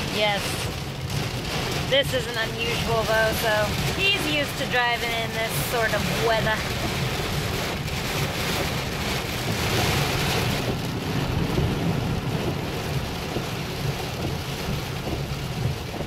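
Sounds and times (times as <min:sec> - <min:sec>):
heavy rain on car: 0:00.0 - 0:16.0
low road rumble: 0:00.0 - 0:16.0.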